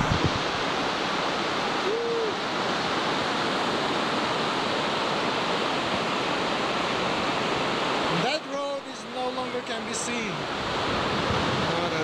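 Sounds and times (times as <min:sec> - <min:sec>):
floodwater roaring: 0:00.0 - 0:12.0.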